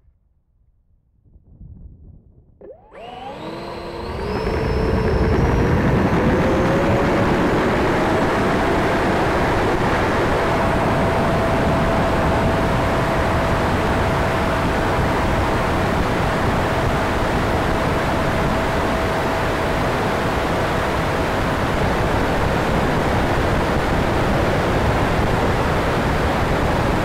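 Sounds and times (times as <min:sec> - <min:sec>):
electric ducted fan whining: 0:02.6 - 0:27.0.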